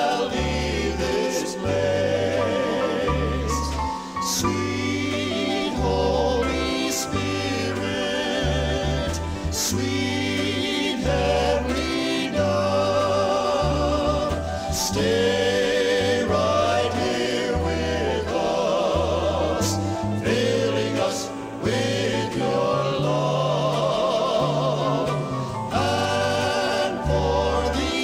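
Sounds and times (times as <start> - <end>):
male vocal quartet singing in harmony: 0.0 - 28.0
organ: 0.0 - 28.0
piano: 0.0 - 28.0
bass guitar: 0.1 - 28.0.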